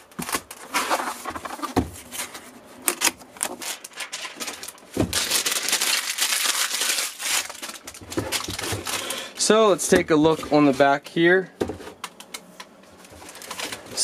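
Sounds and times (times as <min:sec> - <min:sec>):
packaging rustling: 0:00.0 - 0:11.0, 0:12.9 - 0:14.0.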